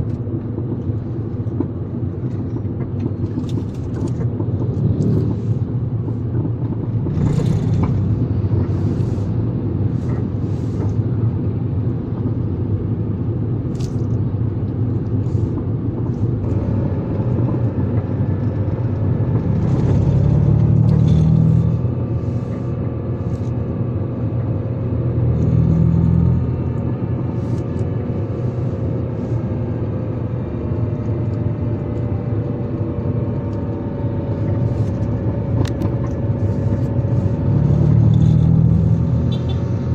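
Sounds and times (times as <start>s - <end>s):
engine and road noise: 0.0s - 39.9s.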